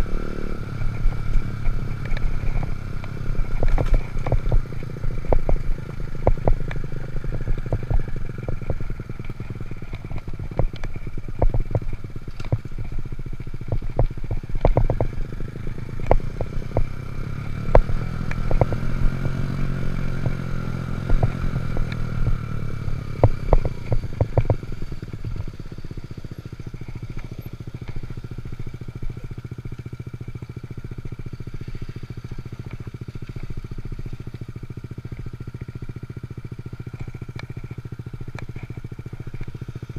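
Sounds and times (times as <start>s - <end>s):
small motorbike engine running: 0.0s - 39.9s.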